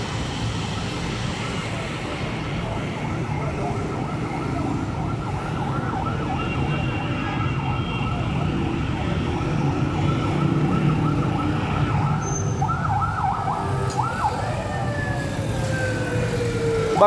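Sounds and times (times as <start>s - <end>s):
low traffic rumble: 0.0s - 17.0s
warbling siren-like tone: 2.6s - 17.0s.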